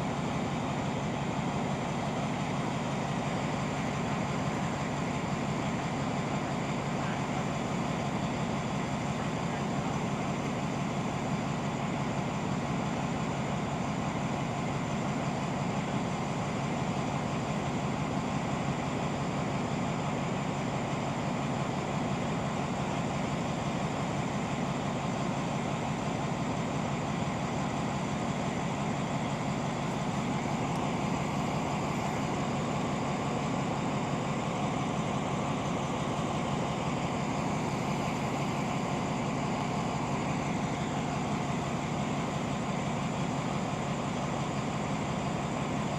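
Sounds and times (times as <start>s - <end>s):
train diesel engine idling: 0.0s - 45.9s.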